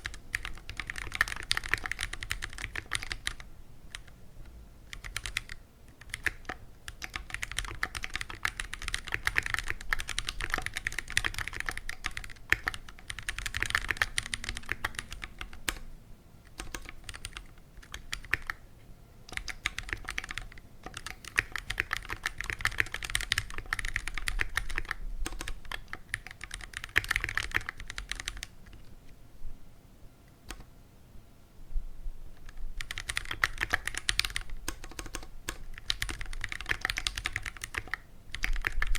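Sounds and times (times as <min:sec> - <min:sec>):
mechanical keyboard typing: 0:00.0 - 0:04.1, 0:04.9 - 0:15.9, 0:16.5 - 0:18.6, 0:19.3 - 0:28.9, 0:30.4 - 0:30.7, 0:32.4 - 0:38.9.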